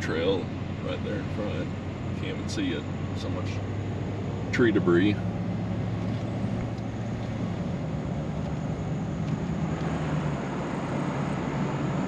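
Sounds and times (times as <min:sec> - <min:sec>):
engine hum inside vehicle: 0:00.0 - 0:12.0.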